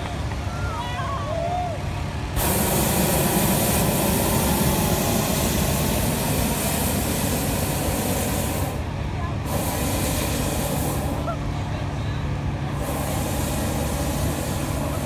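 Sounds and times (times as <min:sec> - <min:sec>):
propane burner rushing: 0:01.3 - 0:15.0.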